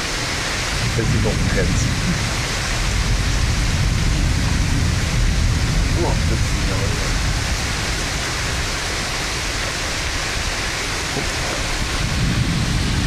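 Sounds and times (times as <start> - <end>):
heavy rain pouring: 0.0 - 13.0
low thunder rumble: 0.0 - 13.0.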